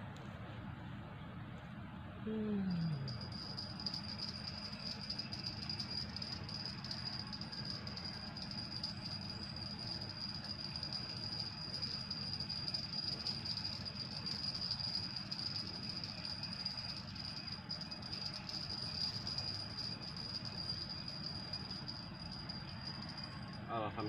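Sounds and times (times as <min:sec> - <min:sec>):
insects buzzing: 0:02.8 - 0:24.0.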